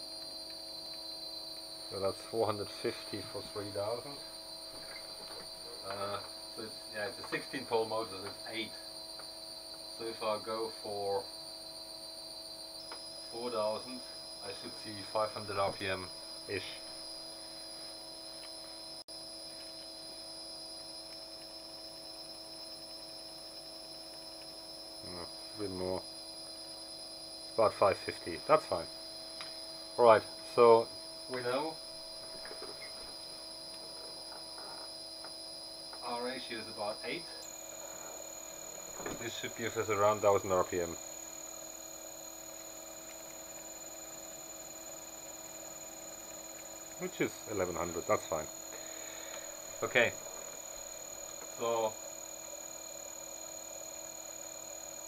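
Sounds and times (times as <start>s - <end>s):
electric motor hum and whine: 0.0s - 55.0s.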